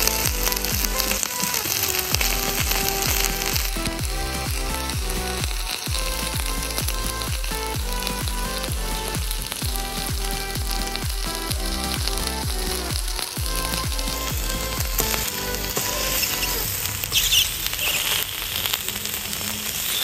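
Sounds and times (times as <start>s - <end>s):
music with electronic beat: 0.0s - 17.0s
hot metal ball sizzling on jelly: 0.0s - 20.0s.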